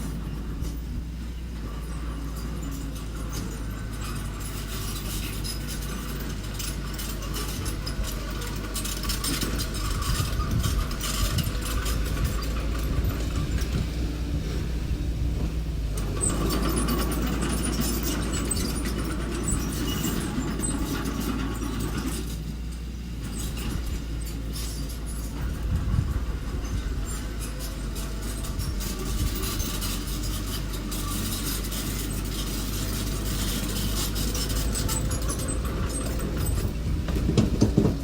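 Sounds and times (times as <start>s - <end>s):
coarse loud rumble: 0.0s - 38.0s
construction machinery engine running: 0.0s - 38.0s
metallic clanks and rattles: 0.0s - 38.0s.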